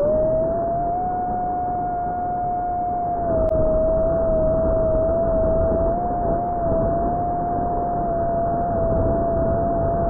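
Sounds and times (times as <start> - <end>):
electric fan high whine: 0.0 - 10.0.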